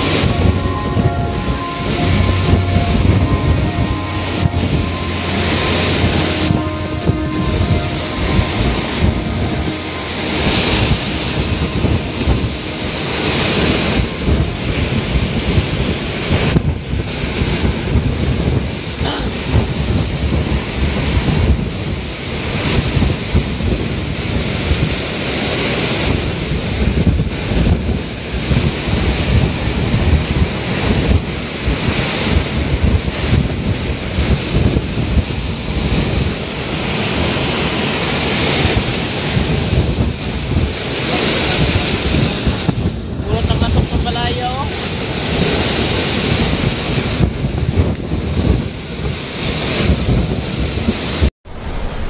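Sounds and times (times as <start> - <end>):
strong gusting wind on microphone: 0.0 - 52.0.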